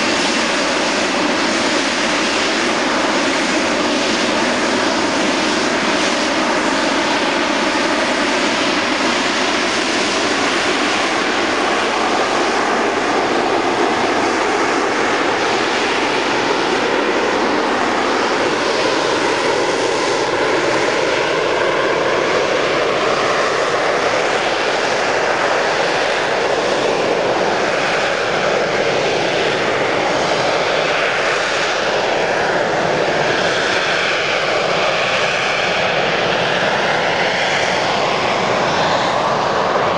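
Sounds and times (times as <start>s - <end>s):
jet engine roaring with whine: 0.0s - 39.9s.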